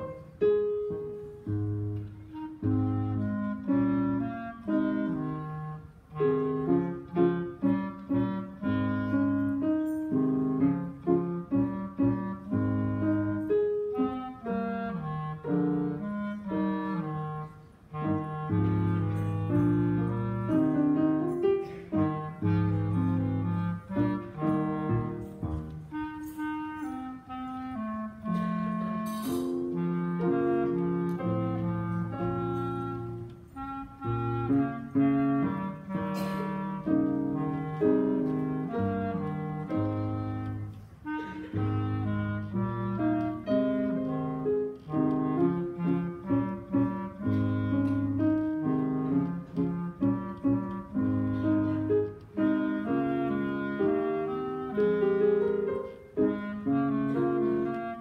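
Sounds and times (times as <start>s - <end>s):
clarinet melody: 0.0s - 58.0s
lower accompaniment: 0.0s - 58.0s.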